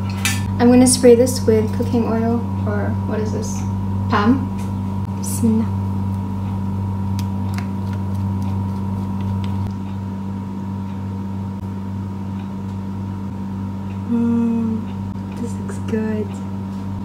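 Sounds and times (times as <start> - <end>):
appliance electrical hum: 0.0 - 17.0.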